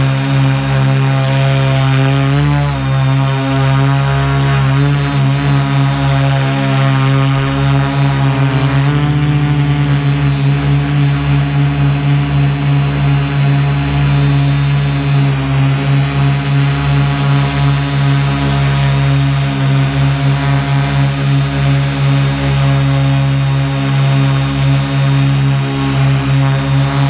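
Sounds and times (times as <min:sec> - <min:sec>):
drone propellers humming: 0:00.0 - 0:27.0
high whine: 0:00.0 - 0:27.0.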